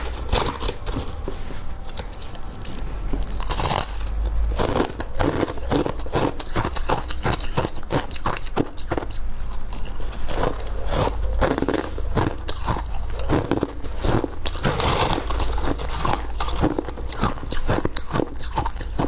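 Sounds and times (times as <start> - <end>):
chewing crunchy ice: 0.0 - 19.0.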